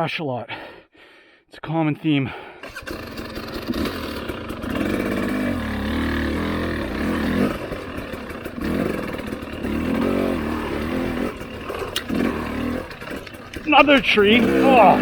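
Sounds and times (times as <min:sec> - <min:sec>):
motorcycle engine revving: 0:02.6 - 0:15.0.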